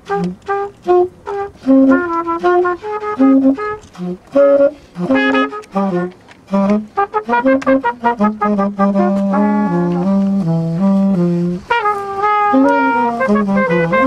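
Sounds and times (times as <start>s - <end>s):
saxophone: 0.0s - 14.0s
trumpet: 0.0s - 14.0s.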